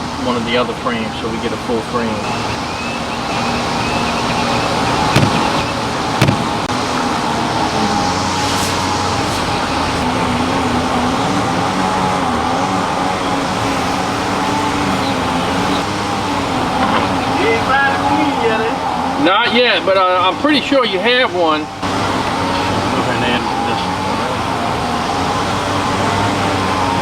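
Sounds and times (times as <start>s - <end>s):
honeybees buzzing: 2.0s - 27.0s.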